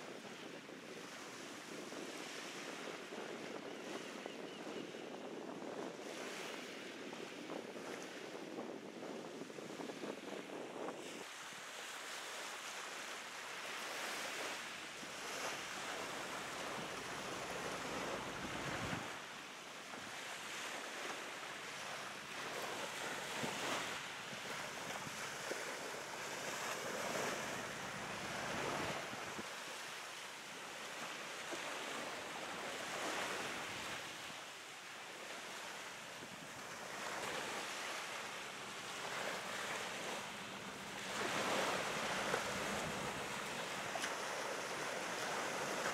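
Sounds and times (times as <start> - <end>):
wind over water: 0.0 - 45.9
small waves washing ashore: 5.5 - 45.9.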